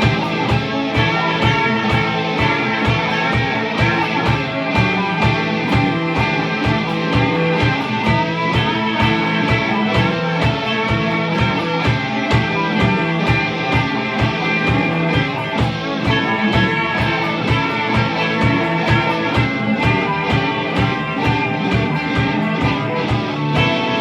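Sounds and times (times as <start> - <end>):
drum beat: 0.0 - 24.0
rock guitars: 0.0 - 24.0.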